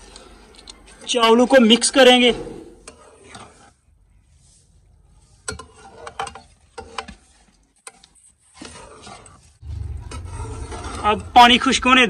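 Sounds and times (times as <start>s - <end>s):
metal spoon scraping a pan: 0.0s - 11.9s.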